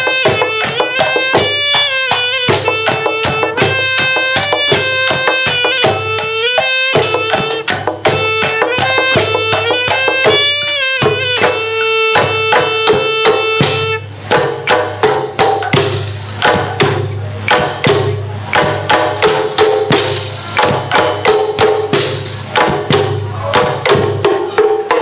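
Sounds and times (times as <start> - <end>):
quick percussive strikes: 0.0 - 25.0.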